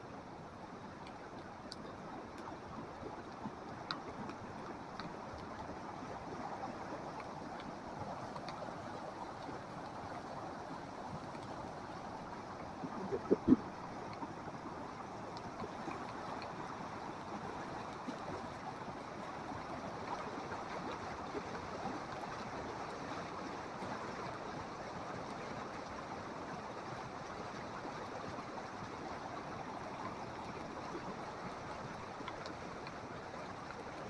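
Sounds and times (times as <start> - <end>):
creek rushing: 0.0 - 34.0.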